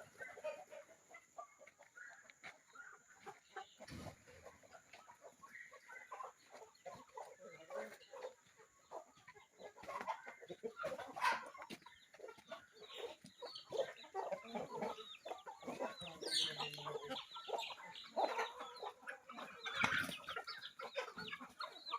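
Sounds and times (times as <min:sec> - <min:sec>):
chickens clucking: 0:00.0 - 0:21.9.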